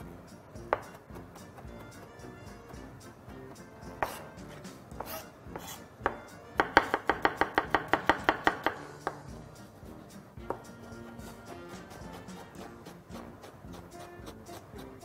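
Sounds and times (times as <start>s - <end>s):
knife chopping on cutting board: 0.6s - 9.4s, 10.4s - 15.0s.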